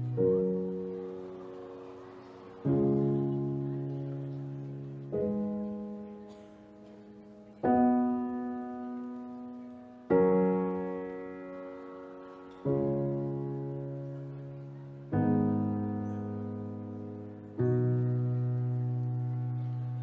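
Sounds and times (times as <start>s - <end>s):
slow solo piano chords: 0.0s - 20.0s.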